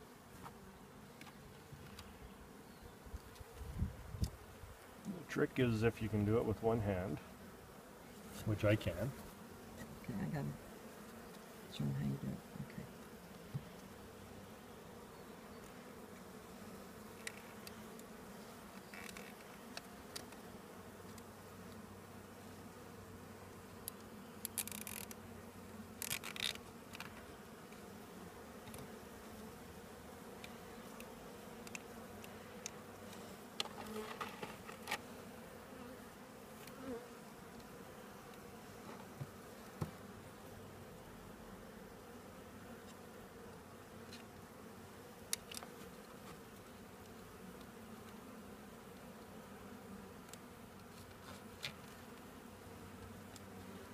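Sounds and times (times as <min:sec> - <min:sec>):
honeybees buzzing: 0:00.0 - 0:53.9.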